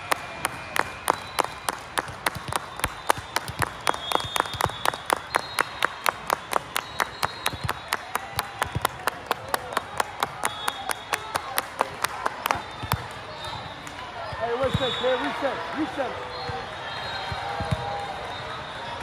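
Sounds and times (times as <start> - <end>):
people clapping: 0.0 - 16.1.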